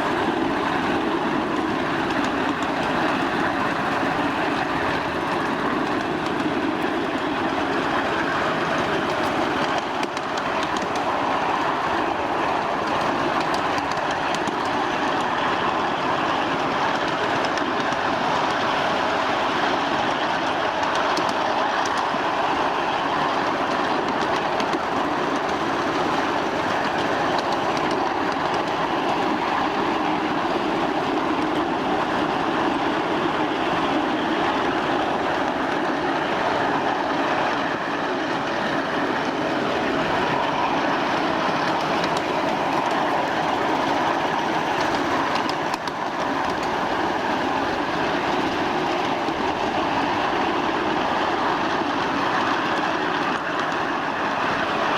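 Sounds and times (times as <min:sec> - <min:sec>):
miniature train wheels rumbling on rails: 0:00.0 - 0:54.9.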